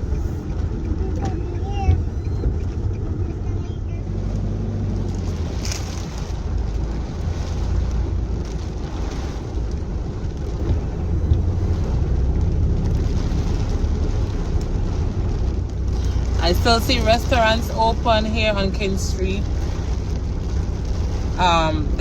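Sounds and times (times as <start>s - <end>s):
car cabin low rumble: 0.0s - 22.0s
water hissing around tyres: 4.1s - 22.0s.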